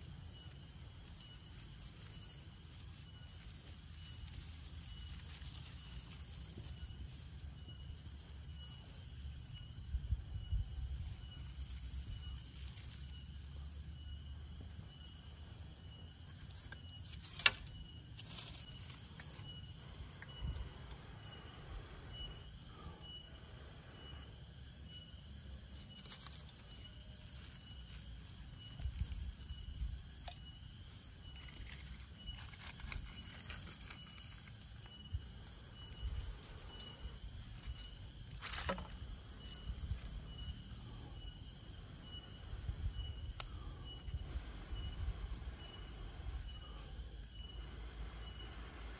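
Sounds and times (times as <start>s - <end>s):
dry grass and bamboo rustling: 0.0s - 22.8s, 24.3s - 48.2s
forest insects chorus: 0.0s - 48.9s
pulsing high insect call: 0.0s - 48.9s.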